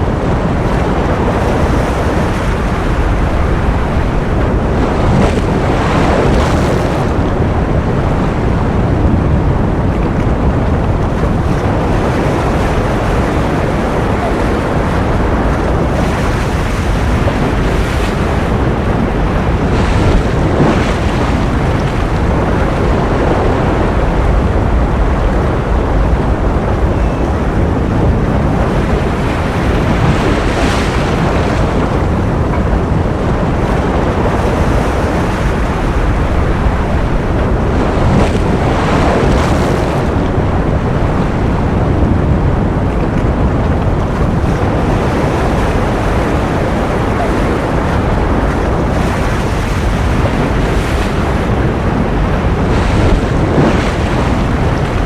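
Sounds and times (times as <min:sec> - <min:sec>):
ocean surf: 0:00.0 - 0:55.0.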